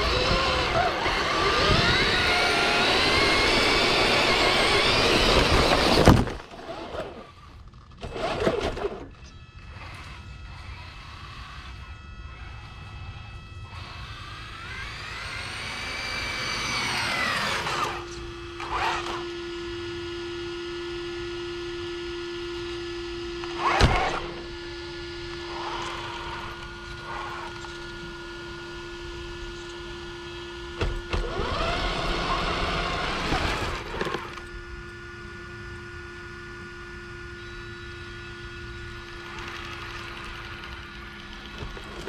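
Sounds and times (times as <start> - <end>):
electric motor whining: 0.0 - 42.0.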